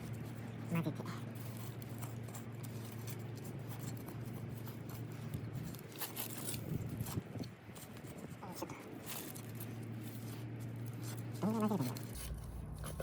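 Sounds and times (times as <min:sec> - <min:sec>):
soil being scraped: 0:00.0 - 0:13.0
steady low hum: 0:00.0 - 0:13.0.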